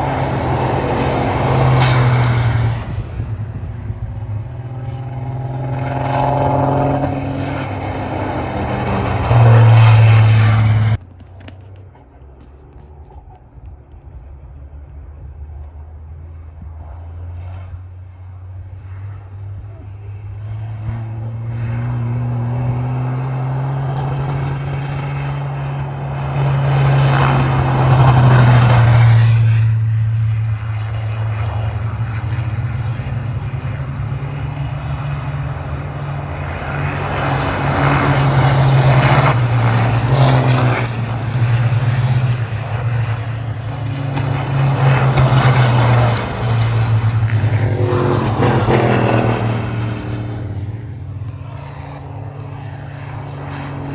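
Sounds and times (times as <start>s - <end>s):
diesel truck engines passing: 0.0s - 53.9s.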